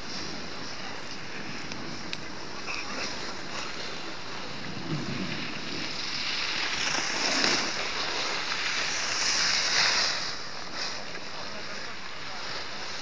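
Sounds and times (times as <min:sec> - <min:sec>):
wind rushing on microphone: 0:00.0 - 0:11.6
ski edges scraping over snow: 0:00.0 - 0:13.0.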